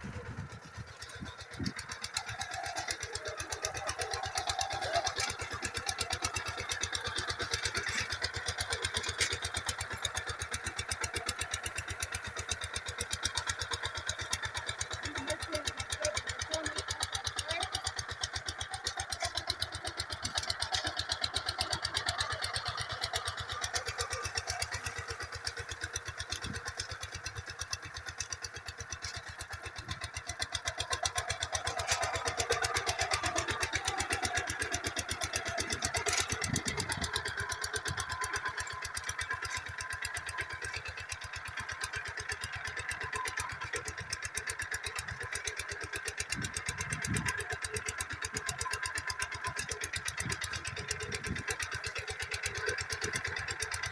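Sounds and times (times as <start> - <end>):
walking tractor engine running: 0.0 - 53.9.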